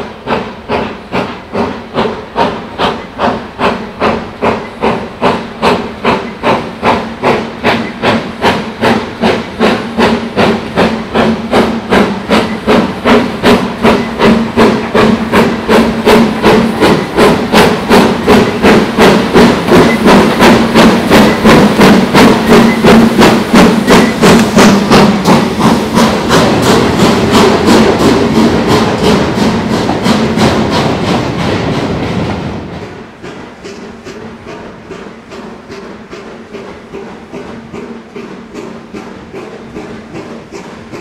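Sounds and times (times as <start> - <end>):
steam locomotive exhaust beats: 0.0 - 41.0.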